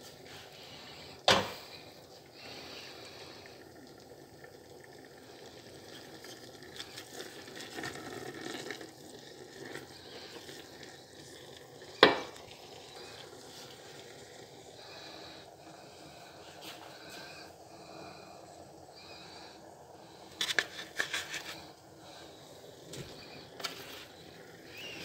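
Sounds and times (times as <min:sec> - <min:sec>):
food stewing: 0:00.0 - 0:25.0.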